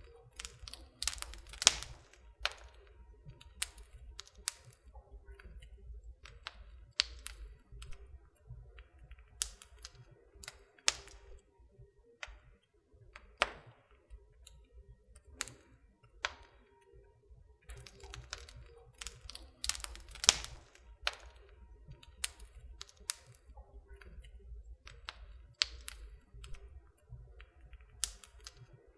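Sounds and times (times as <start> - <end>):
fire pops and snaps: 0.0 - 11.5, 12.2 - 16.9, 17.6 - 28.9
faint low rumble: 0.0 - 28.9
wood fire crackling: 0.0 - 28.9.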